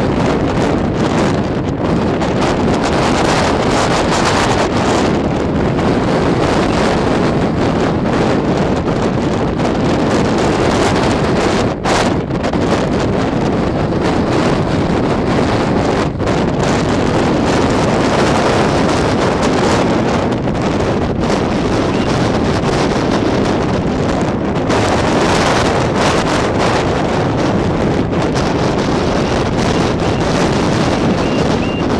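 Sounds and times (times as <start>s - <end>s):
strong wind buffeting microphone: 0.0s - 31.9s.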